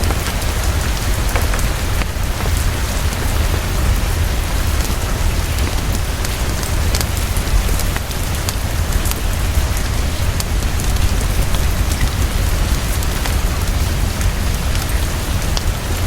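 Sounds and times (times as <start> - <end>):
heavy rainfall: 0.0 - 16.0.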